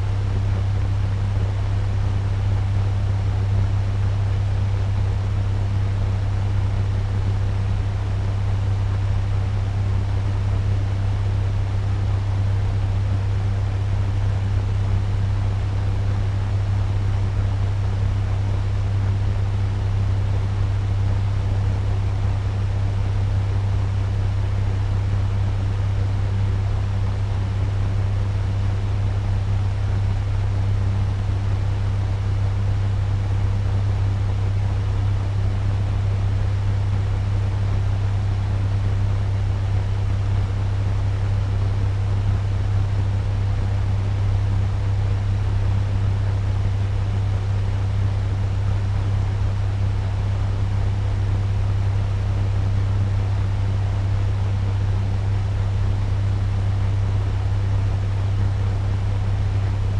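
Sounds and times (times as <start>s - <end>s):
fan running: 0.0s - 59.9s.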